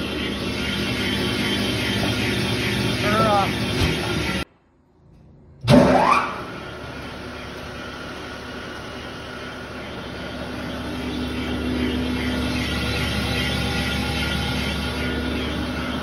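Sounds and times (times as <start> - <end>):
motor rising whine: 0.0 - 4.5, 5.7 - 16.0.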